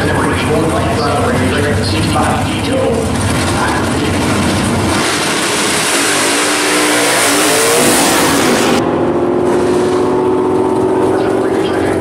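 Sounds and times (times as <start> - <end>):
muscle car engines roaring: 0.0 - 12.0.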